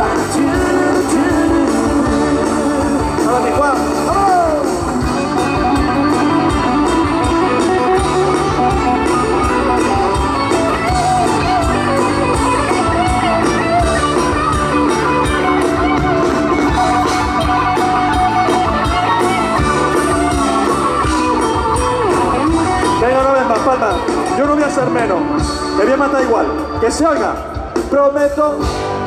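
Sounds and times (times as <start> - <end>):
bass: 0.0 - 29.0
lead guitar line: 0.0 - 29.0
steady drum beat: 0.0 - 29.0.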